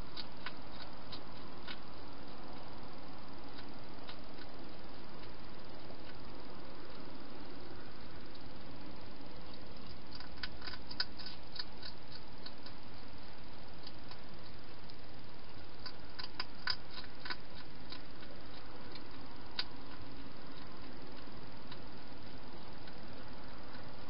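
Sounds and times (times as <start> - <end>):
hedgehog chewing clicks: 0.0 - 2.7, 3.4 - 6.3, 9.4 - 24.0.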